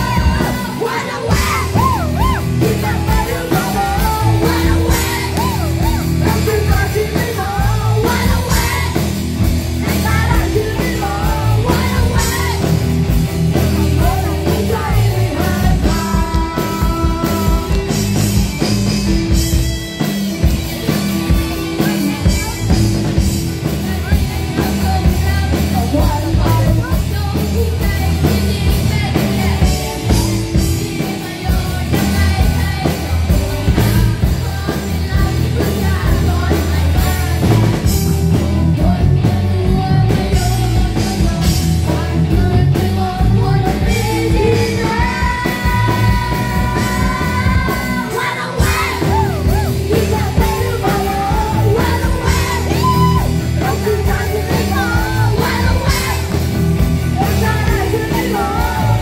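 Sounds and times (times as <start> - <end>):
person singing: 0.0 - 19.4, 21.2 - 59.0
live rock band playing: 0.0 - 59.0.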